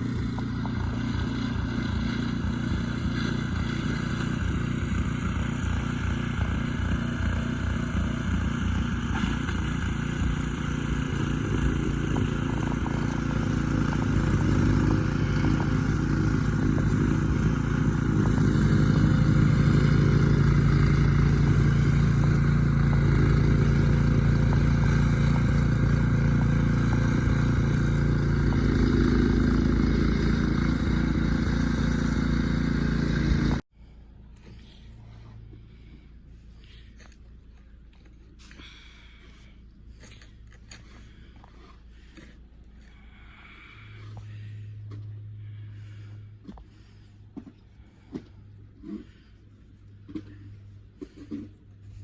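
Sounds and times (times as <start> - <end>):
motor engine running: 0.0 - 52.0.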